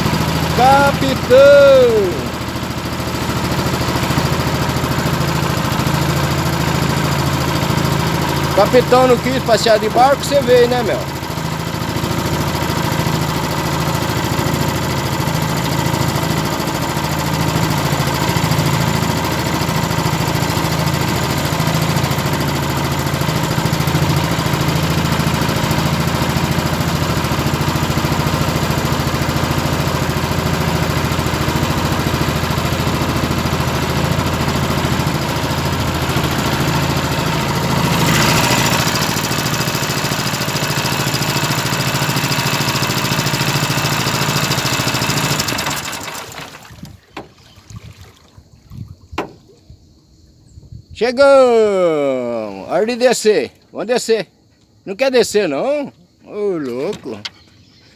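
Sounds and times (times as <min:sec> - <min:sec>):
boat motor humming: 0:00.0 - 0:48.6
water and wind hiss: 0:00.0 - 0:50.0.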